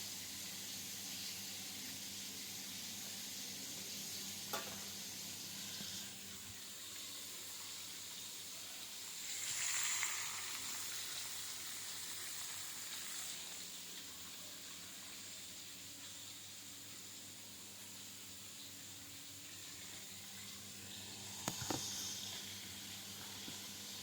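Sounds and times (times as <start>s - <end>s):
oil sizzling in a frying pan: 0.0s - 24.0s.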